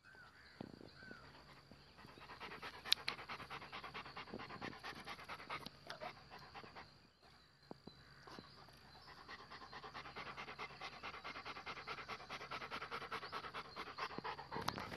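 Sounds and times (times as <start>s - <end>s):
dog panting: 1.1s - 7.0s, 8.3s - 14.9s.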